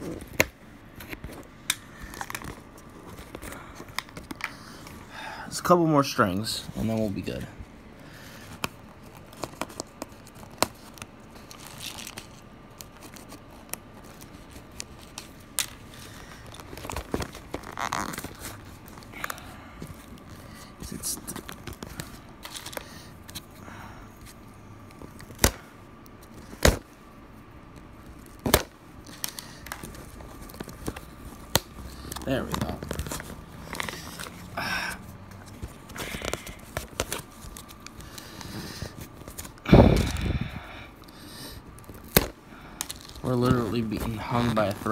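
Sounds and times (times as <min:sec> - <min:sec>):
plastic and paper crinkling: 0:00.0 - 0:05.0, 0:06.4 - 0:23.6, 0:24.2 - 0:44.9.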